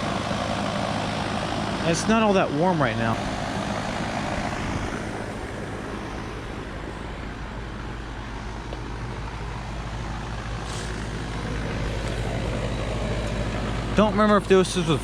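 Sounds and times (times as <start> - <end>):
compressor humming: 0.0 - 15.0
condenser fan rushing: 0.0 - 15.0.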